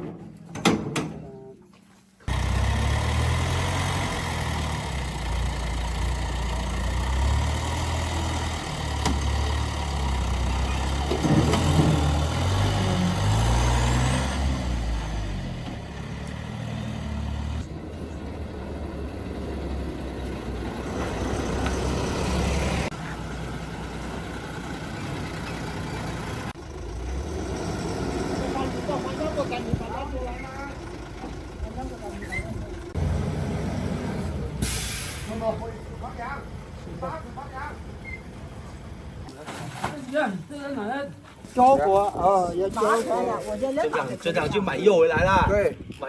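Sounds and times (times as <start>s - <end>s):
truck engine running: 2.3s - 39.2s.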